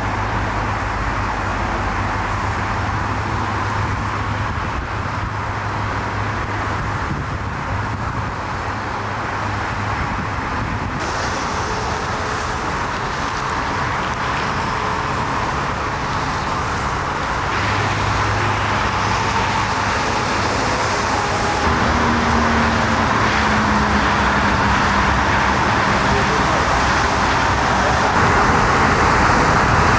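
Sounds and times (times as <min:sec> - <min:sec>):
road traffic noise: 0:00.0 - 0:29.9.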